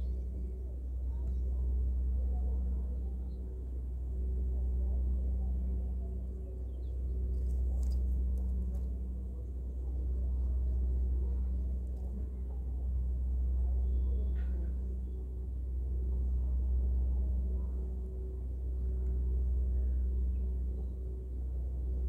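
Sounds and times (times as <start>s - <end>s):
faint hum: 0.0s - 22.0s
steady low rumble: 0.0s - 22.0s.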